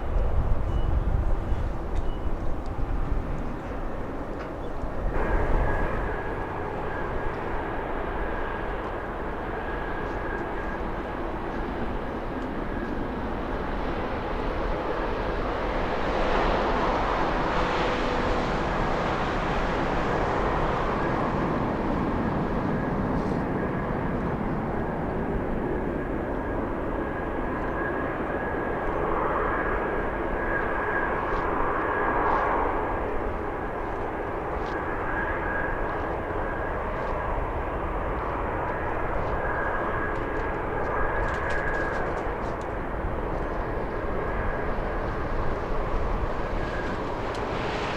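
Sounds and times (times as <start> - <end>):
jet engines roaring with high whine: 0.0 - 47.9.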